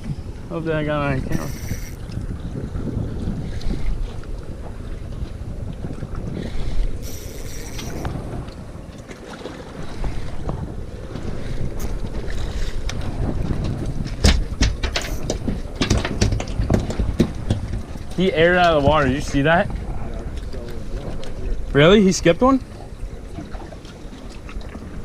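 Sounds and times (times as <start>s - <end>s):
water and boat noise: 0.0s - 25.0s
wind buffeting microphone: 0.0s - 25.0s.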